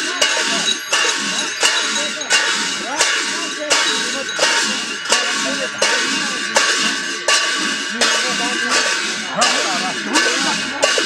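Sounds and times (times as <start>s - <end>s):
metal cymbals clashing: 0.0s - 11.0s.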